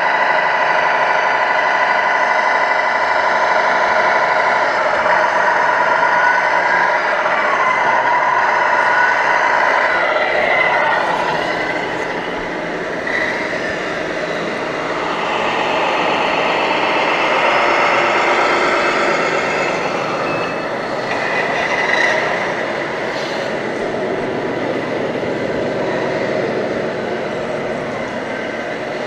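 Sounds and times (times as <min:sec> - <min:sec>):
model trucks mechanical drone and whine: 0:00.0 - 0:29.0.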